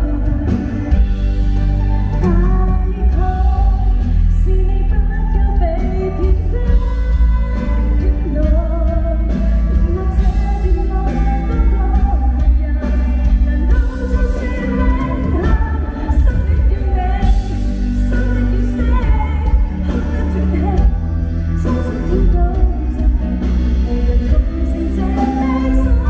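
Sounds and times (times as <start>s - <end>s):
drums: 0.0s - 26.0s
heavy bass: 0.0s - 26.0s
woman singing: 0.0s - 26.0s.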